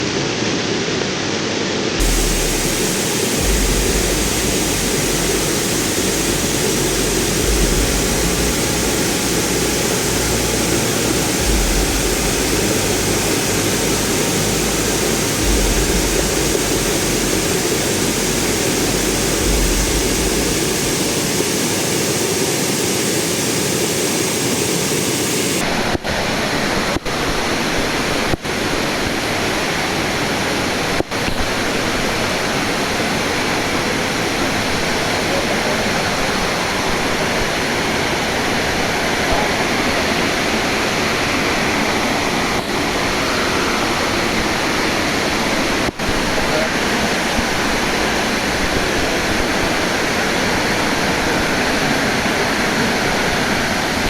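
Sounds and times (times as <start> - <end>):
waterfall rushing: 0.4 - 54.0.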